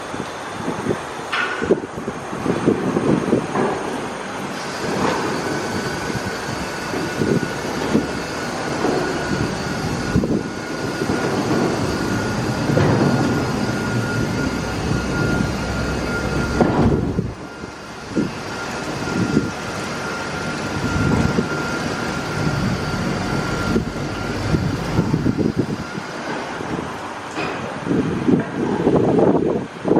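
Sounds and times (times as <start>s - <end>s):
high-pitched machine whine: 0.0s - 29.5s
car wash machinery running: 0.0s - 29.9s.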